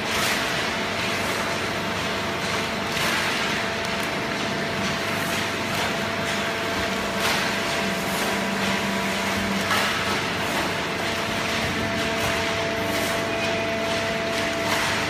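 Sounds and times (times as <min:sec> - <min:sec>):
waste paper clattering: 0:00.0 - 0:15.0.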